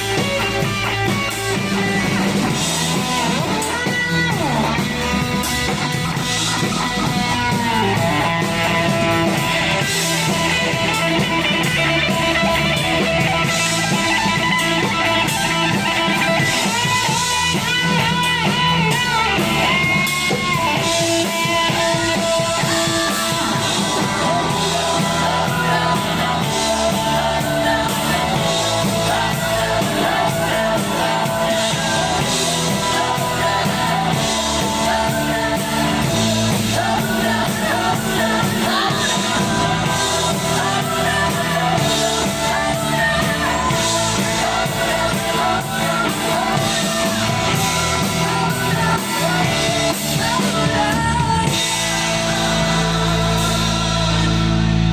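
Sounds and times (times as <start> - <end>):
live rock band playing: 0.0 - 54.9
person singing: 0.0 - 54.9.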